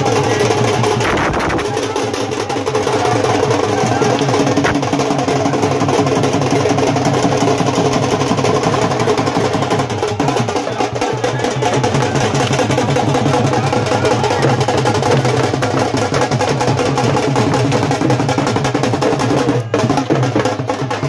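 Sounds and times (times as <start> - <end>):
fast folk drumming: 0.0 - 21.0.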